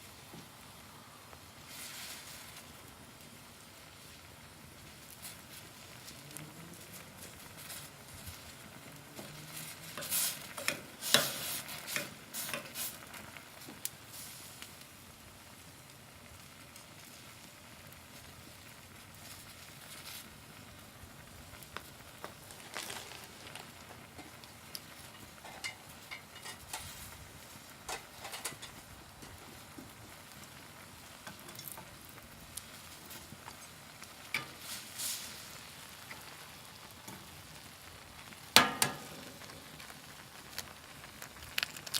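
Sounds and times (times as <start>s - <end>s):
pot simmering and sizzling: 0.0s - 41.9s.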